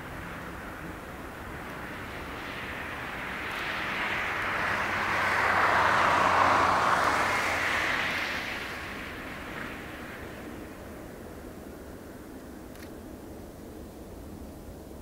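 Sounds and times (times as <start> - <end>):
distant jet airliner roar: 0.0 - 14.0.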